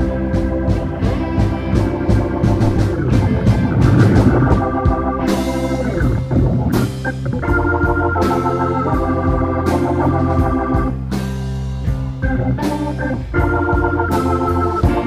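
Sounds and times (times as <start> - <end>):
electric bass: 0.0 - 15.0
electric guitar: 0.0 - 15.0
organ keyboard chords: 0.0 - 15.0.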